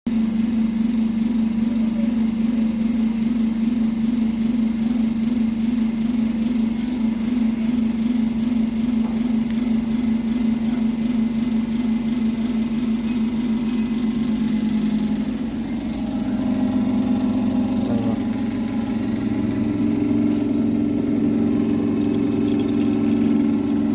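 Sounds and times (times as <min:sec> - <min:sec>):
hydraulic machinery humming: 0:00.8 - 0:23.9.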